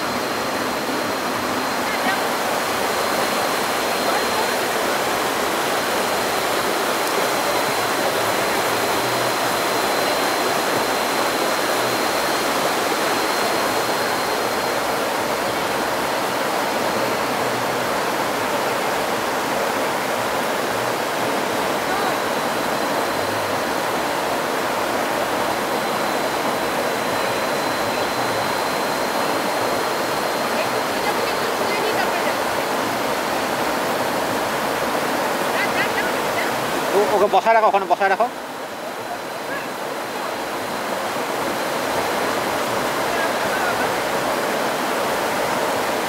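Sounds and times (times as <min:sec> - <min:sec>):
flowing river water: 0:00.0 - 0:46.0
high whine: 0:00.0 - 0:46.0.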